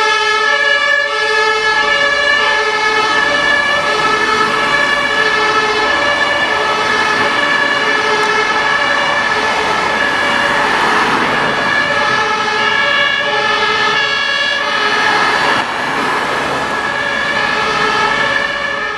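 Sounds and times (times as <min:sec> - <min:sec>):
city traffic: 0:00.0 - 0:18.9
fire engine two-tone siren: 0:00.0 - 0:18.9.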